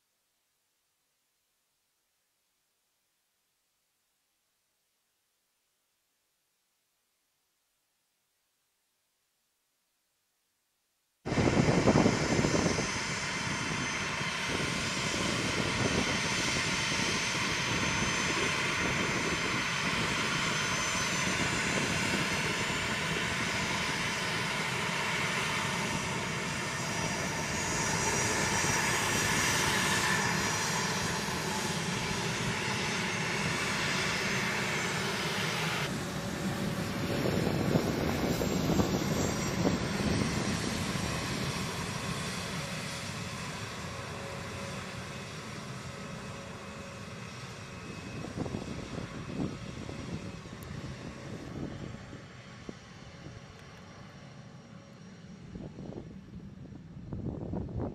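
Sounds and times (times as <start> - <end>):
jet engines roaring with whine: 11.3 - 57.9.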